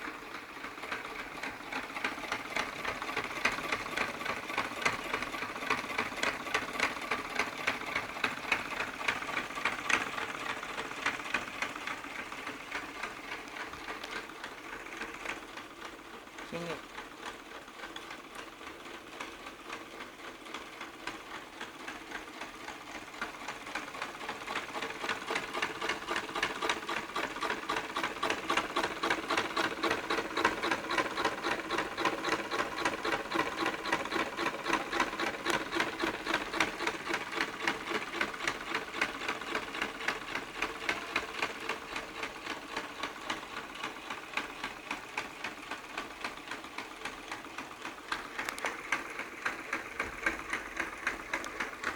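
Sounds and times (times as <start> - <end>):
piston engine clattering: 0.0 - 51.9.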